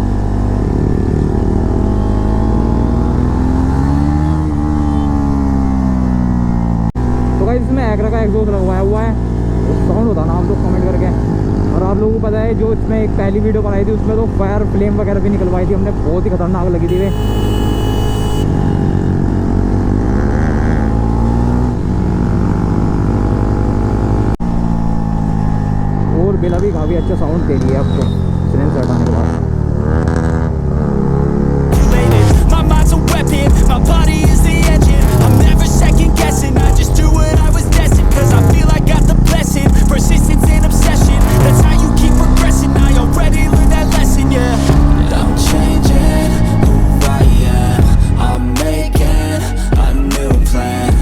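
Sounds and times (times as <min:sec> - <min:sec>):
motorcycle engine and exhaust: 0:00.0 - 0:51.0.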